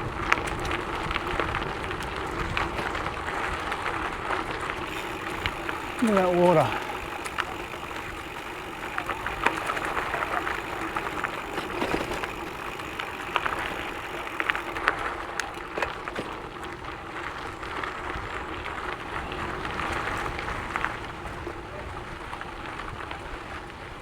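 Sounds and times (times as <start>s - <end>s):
bike tyres rumbling on gravel: 0.0s - 24.0s
gravel crunches and rattles: 0.0s - 24.0s.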